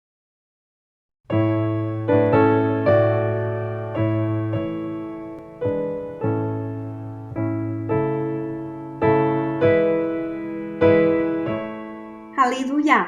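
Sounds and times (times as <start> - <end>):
slow gentle piano music: 1.3 - 12.8.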